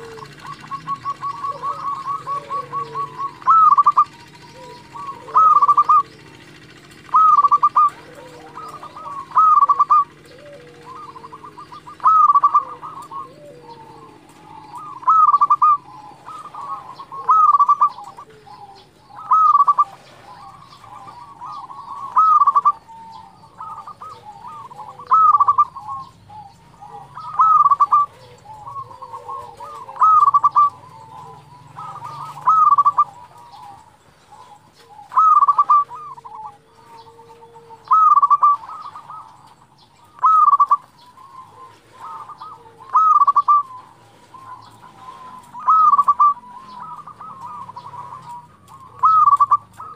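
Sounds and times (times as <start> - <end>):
dove cooing: 0.0 - 49.9.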